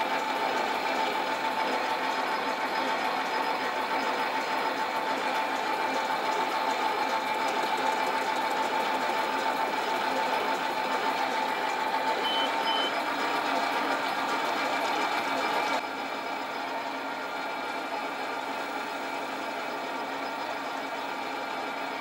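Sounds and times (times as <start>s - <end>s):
lathe whining: 0.0s - 22.0s.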